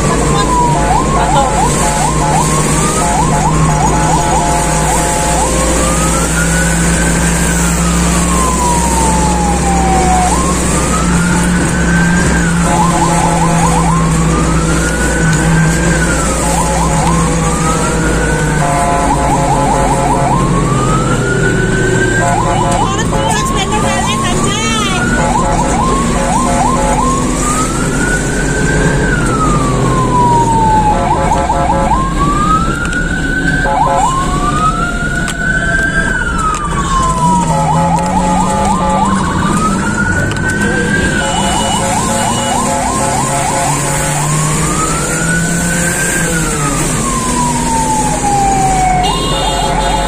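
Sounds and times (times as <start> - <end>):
emergency vehicle siren: 0.0 - 50.0
vehicle engine and road noise: 0.0 - 50.0.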